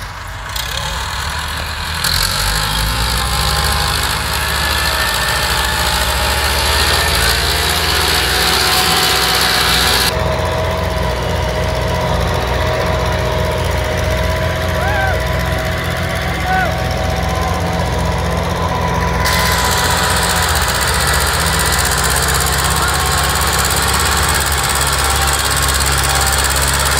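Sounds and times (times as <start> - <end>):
tractor engines under load: 0.0 - 26.9.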